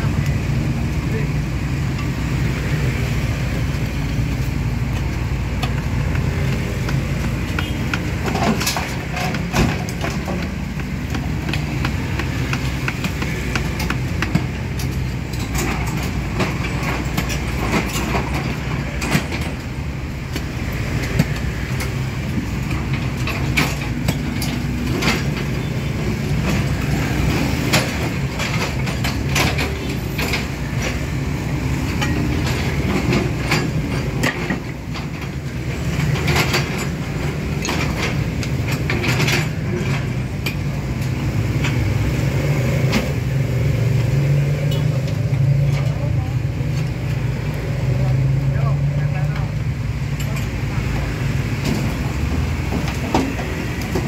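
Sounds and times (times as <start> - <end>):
knocks and clatters of digging: 0.0 - 54.0.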